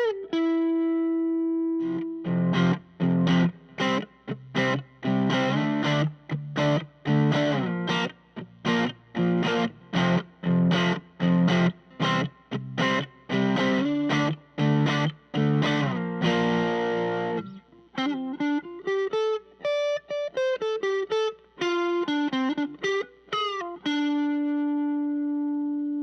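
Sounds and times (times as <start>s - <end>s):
electric guitar through amp: 0.0s - 26.0s.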